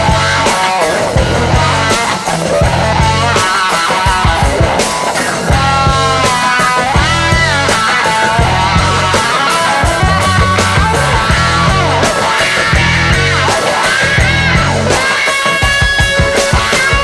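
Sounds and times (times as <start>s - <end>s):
steady bass: 0.0s - 15.1s
rock music with bending guitar: 0.0s - 17.0s.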